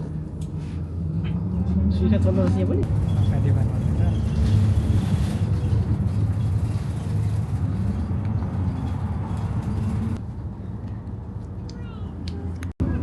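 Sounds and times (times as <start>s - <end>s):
road noise: 0.0s - 13.0s
vehicle low rumble: 0.0s - 13.0s.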